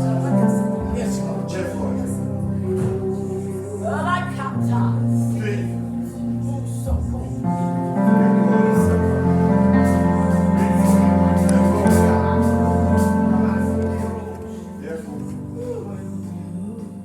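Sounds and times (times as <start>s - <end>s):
low bass note: 0.0s - 16.7s
church organ chords: 0.0s - 17.0s.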